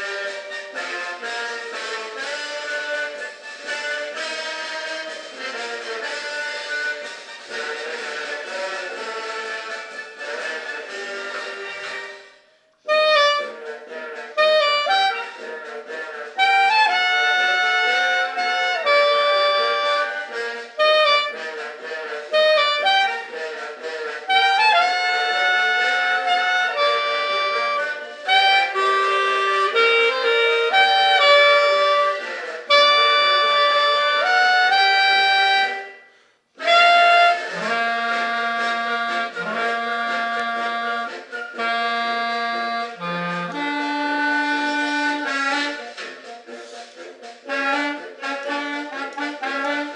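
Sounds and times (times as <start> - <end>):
wind instrument melody: 0.0 - 49.9.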